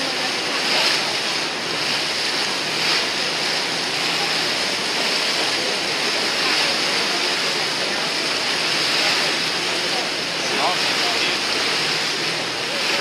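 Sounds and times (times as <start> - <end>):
water rushing past boat: 0.0 - 13.0.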